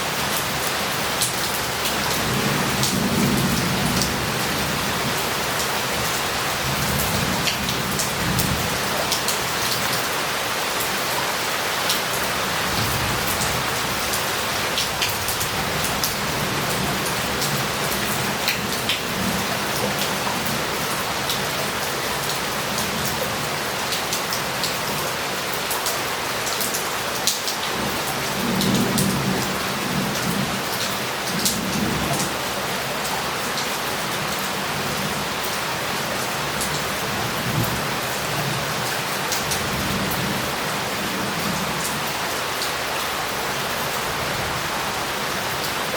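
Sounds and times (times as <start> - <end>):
heavy rain on roof tiles: 0.0 - 45.9.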